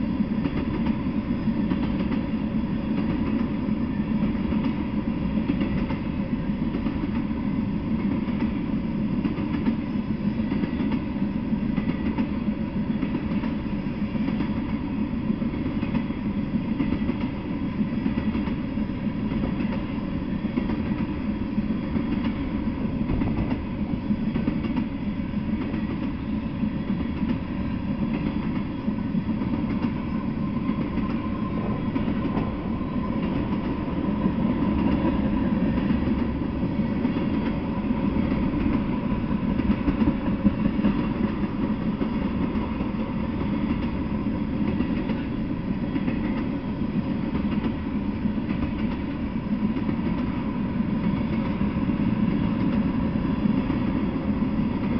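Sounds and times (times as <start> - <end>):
steel wheels on rails: 0.0 - 54.9.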